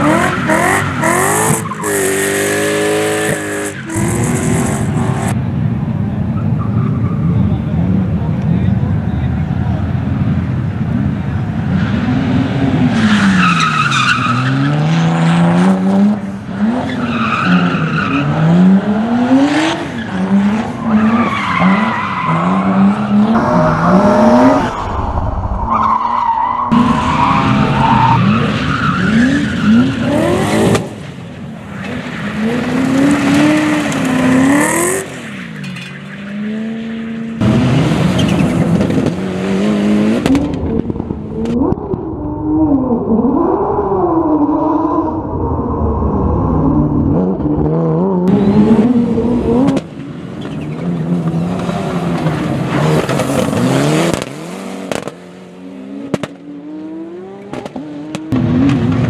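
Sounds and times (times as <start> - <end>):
rally car engine revving: 0.0 - 5.4, 7.6 - 31.1, 31.7 - 45.3, 46.3 - 59.0.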